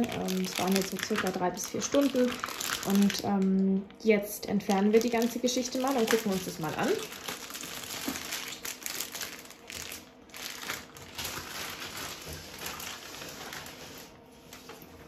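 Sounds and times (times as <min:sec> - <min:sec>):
plastic bag crinkling: 0:00.0 - 0:03.5, 0:04.6 - 0:14.8.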